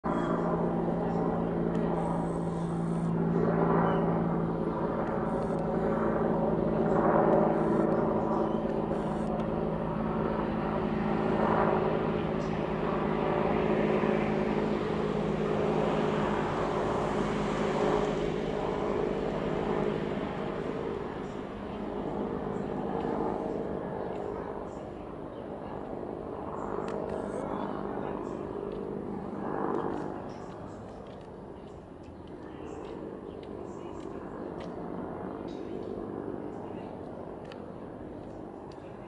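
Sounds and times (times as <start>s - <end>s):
helicopter flying overhead: 0.0s - 39.0s.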